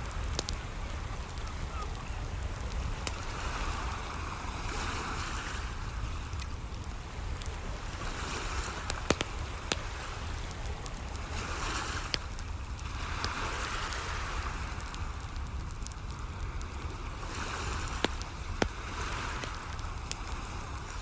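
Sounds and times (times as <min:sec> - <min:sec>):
crackling wood fire: 0:00.0 - 0:21.0
waves washing on shore: 0:00.0 - 0:21.0.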